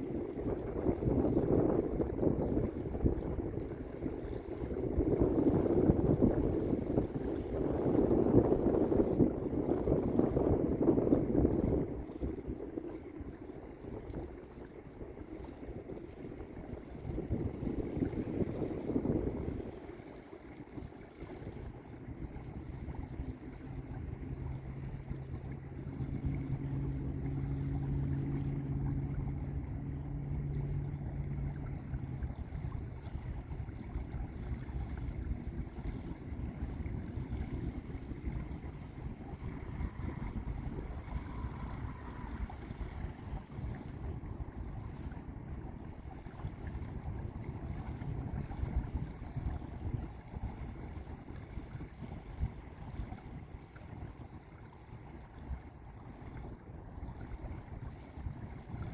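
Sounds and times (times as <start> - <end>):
steady low hum: 0.0 - 53.8
lake waves washing onto beach: 0.0 - 58.9.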